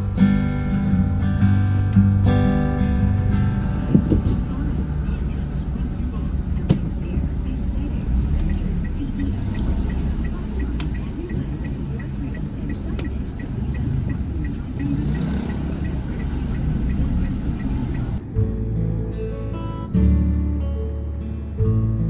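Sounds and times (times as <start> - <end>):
light regular ticking: 0.0 - 18.2
car rumbling on the move: 0.0 - 19.0.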